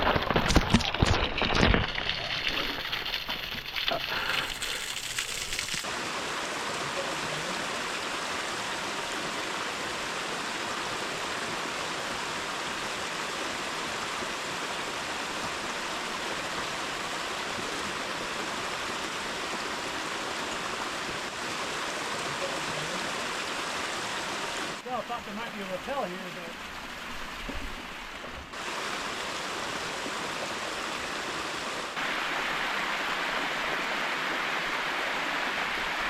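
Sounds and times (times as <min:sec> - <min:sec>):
creek cascading over rocks: 0:00.0 - 0:36.0.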